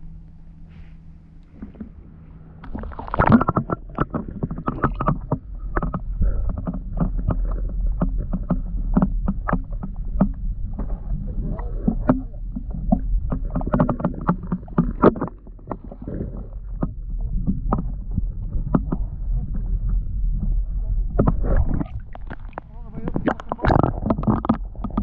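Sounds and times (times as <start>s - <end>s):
low underwater rumble: 0.0s - 25.0s
muffled water sloshing: 0.0s - 25.0s.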